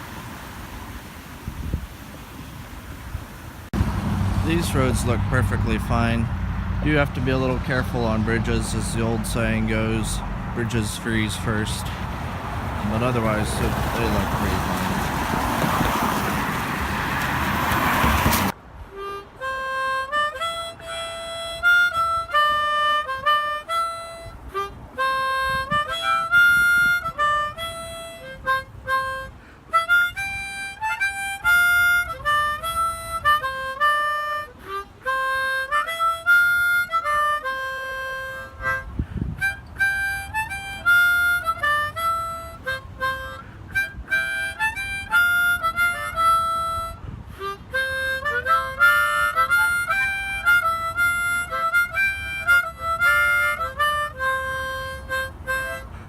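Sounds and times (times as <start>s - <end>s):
harmonica melody: 3.8s - 15.8s, 17.3s - 56.0s.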